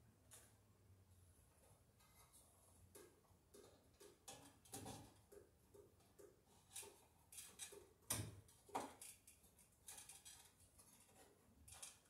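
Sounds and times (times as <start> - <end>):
hands clicking and scraping wiring: 1.5 - 12.0.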